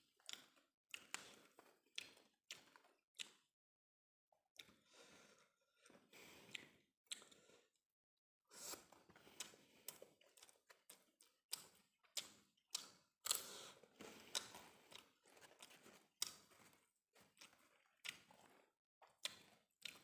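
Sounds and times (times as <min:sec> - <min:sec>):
man chewing food: 0:00.0 - 0:03.5, 0:04.6 - 0:07.8, 0:08.5 - 0:20.0.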